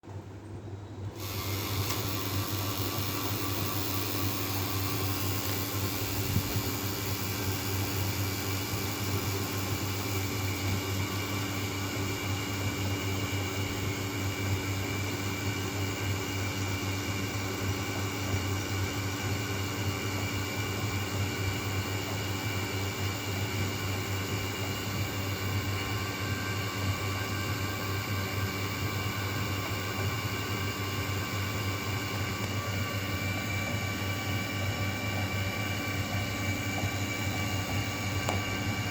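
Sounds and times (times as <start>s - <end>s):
vacuum pump whining and humming: 0.1s - 38.9s.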